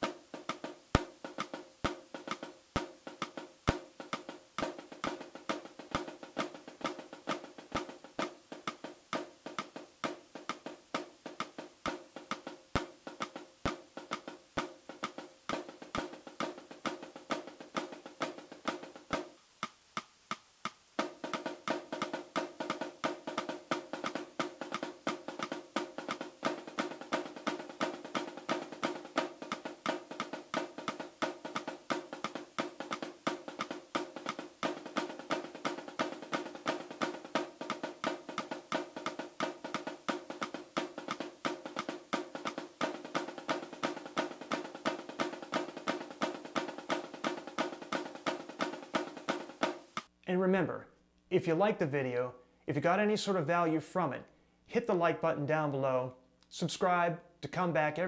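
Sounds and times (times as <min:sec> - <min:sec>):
snare drum flam strokes: 0:00.0 - 0:50.1.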